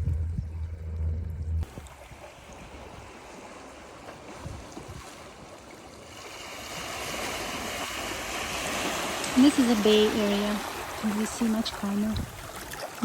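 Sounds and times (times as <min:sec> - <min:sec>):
surf washing onto shore: 0:01.6 - 0:13.0.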